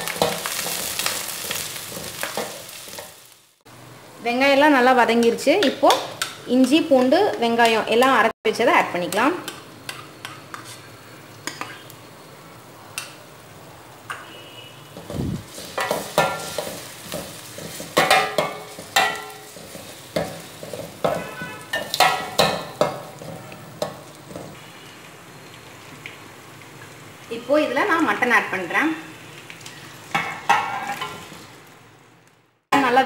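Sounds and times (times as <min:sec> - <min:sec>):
food sizzling in a pan: 0:00.0 - 0:06.9, 0:08.8 - 0:32.2.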